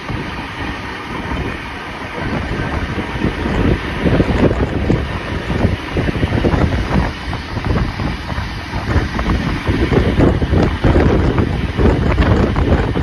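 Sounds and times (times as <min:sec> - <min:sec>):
steam train running: 0:00.0 - 0:13.0
wind buffeting microphone: 0:00.0 - 0:13.0.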